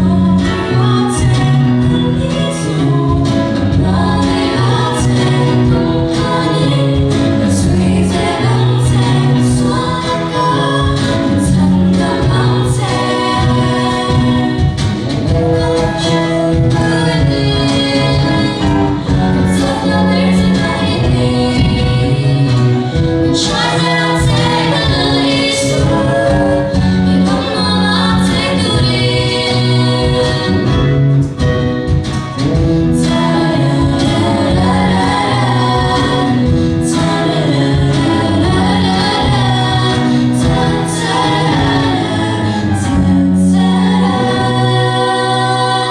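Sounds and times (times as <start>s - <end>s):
choir singing: 0.0s - 45.9s.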